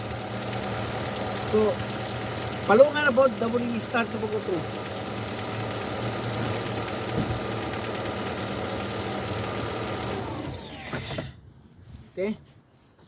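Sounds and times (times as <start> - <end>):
car engine idling and winding down: 0.0 - 11.3.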